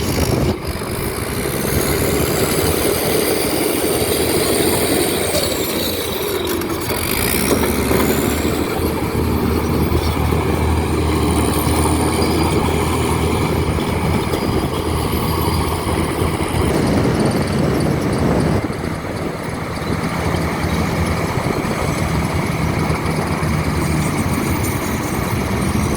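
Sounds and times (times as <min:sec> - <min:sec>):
bulldozer diesel engine droning: 0:00.0 - 0:25.9.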